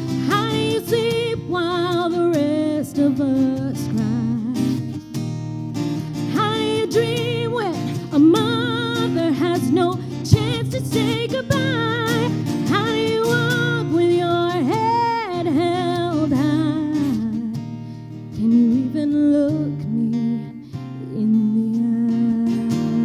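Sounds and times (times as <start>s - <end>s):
strummed acoustic guitar: 0.0s - 23.0s
woman singing with vibrato: 0.1s - 4.8s, 6.2s - 17.6s, 18.4s - 23.0s.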